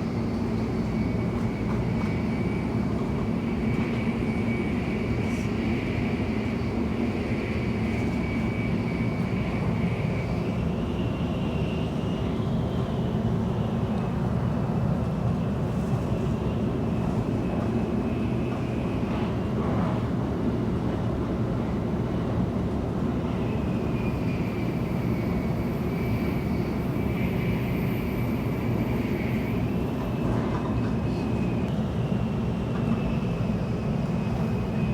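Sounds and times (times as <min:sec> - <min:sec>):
train running rumble: 0:00.0 - 0:34.9.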